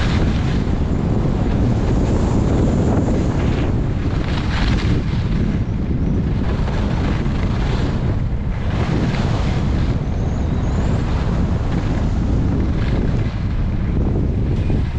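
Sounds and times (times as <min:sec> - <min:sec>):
skis sliding on snow: 0:00.0 - 0:14.9
wind buffeting microphone: 0:00.0 - 0:14.9.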